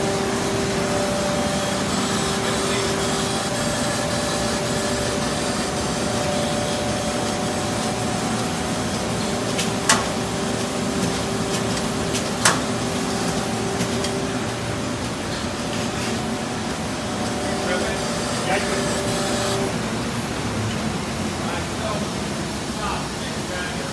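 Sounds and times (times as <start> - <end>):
machinery humming: 0.0 - 23.9.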